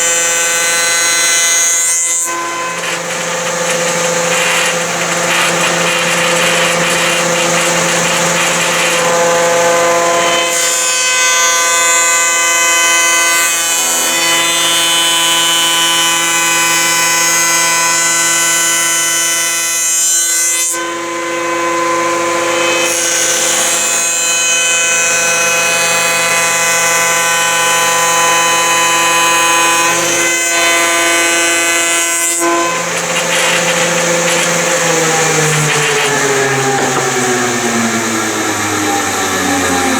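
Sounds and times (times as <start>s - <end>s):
power tool cutter running: 0.0s - 39.9s.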